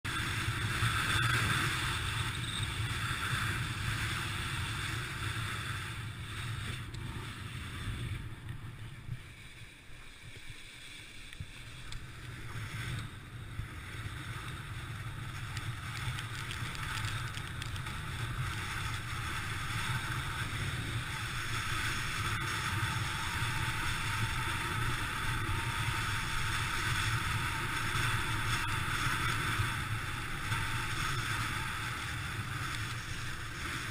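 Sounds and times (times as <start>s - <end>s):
wheels rumbling on wet sand: 0.1s - 33.9s.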